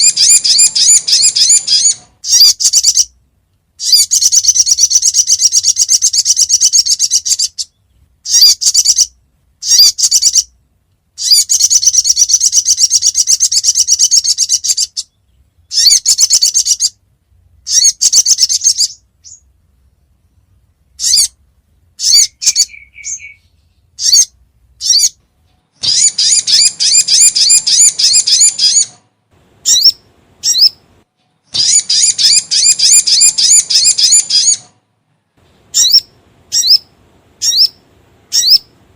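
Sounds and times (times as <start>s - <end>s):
spiderhunter bird chipping: 0.0s - 3.2s, 3.8s - 10.6s, 11.2s - 17.0s, 17.6s - 19.5s, 21.0s - 25.2s, 25.8s - 29.0s, 29.6s - 30.8s, 31.5s - 34.8s, 35.7s - 38.8s.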